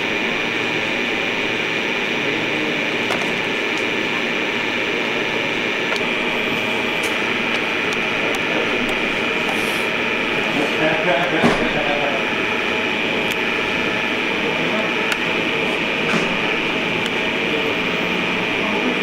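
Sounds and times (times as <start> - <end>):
high hum: 0.0 - 19.0.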